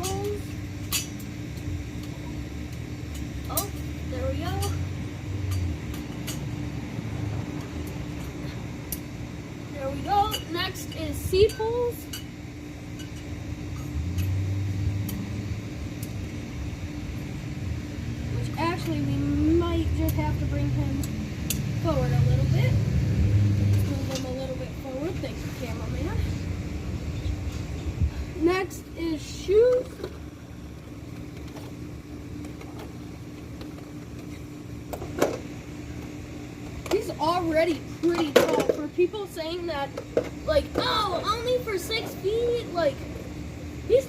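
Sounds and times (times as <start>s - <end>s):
steady background hum: 0.0s - 44.0s.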